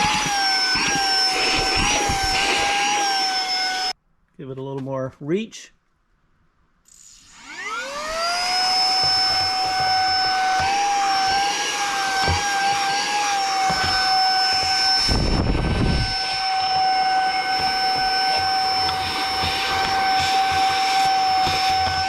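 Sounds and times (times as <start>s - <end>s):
handheld vacuum motor whine: 0.0s - 4.0s, 6.9s - 22.0s.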